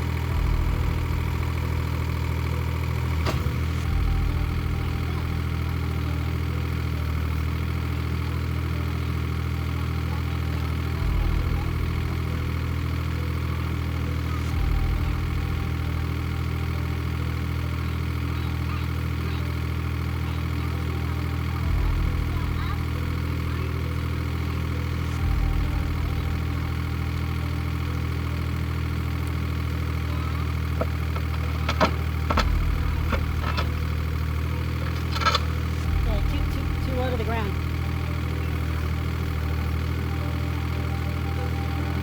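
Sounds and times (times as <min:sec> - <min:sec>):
excavator engine running: 0:00.0 - 0:42.0.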